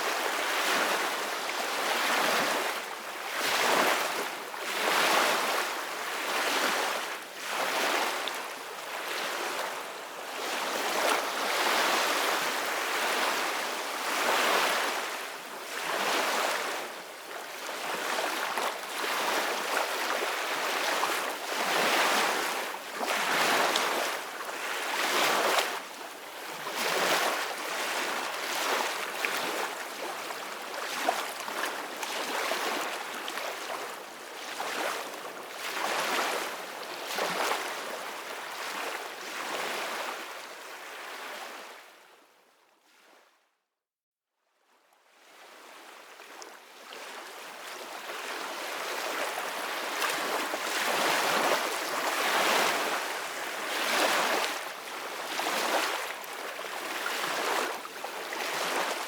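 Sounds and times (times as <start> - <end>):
ocean waves breaking on a beach: 0.0 - 42.0, 45.2 - 59.0.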